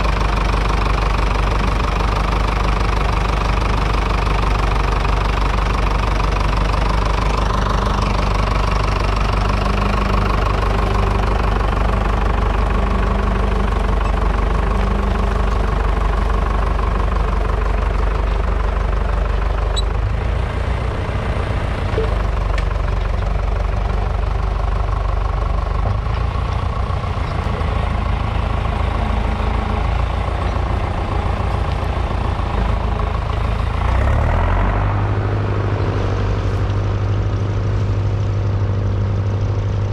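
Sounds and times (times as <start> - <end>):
diesel tractor engine under load: 0.0 - 39.9.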